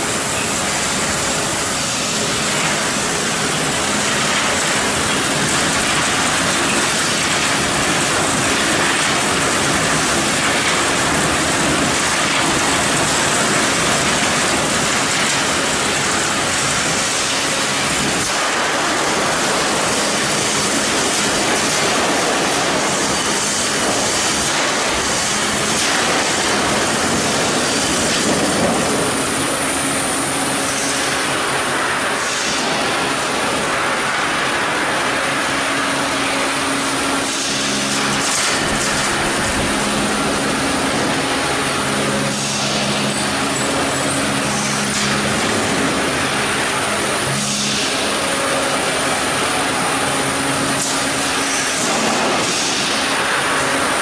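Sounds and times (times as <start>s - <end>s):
industrial machinery running: 0.0s - 54.0s.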